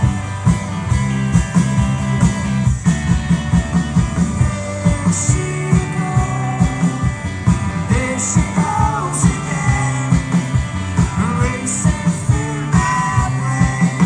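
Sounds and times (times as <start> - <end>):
bass guitar: 0.0 - 14.0
drum kit beat: 0.0 - 14.0
electric guitar: 0.0 - 14.0.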